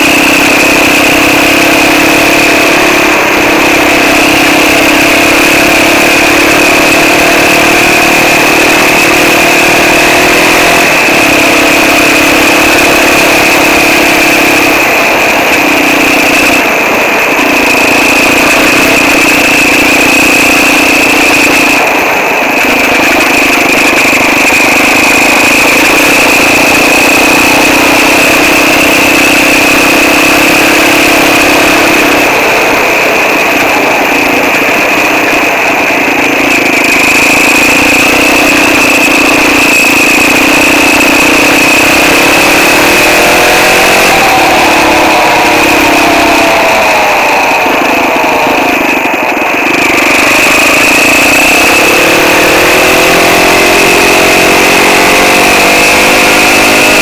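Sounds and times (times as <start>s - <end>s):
quad bike engine running: 0.0s - 57.0s
steady high whine: 0.0s - 57.0s.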